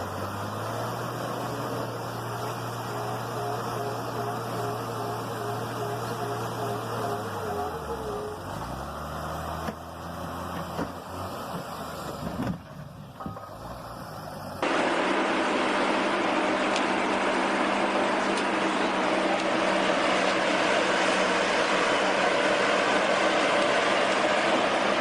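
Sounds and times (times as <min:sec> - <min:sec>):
heavy vehicle engines running: 0:00.0 - 0:25.0.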